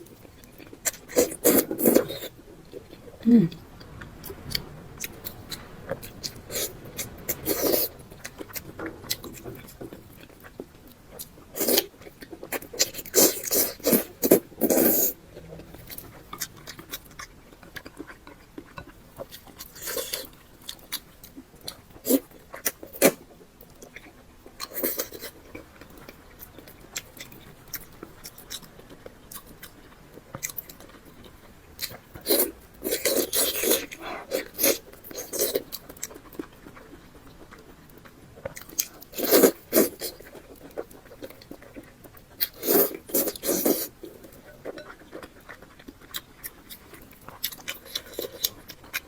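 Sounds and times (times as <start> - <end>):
biting and chewing mouth sounds: 0.0 - 49.0.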